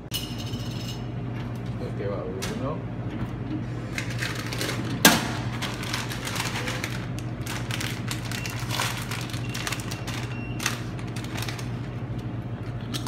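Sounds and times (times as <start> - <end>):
vending machine humming: 0.0 - 13.0.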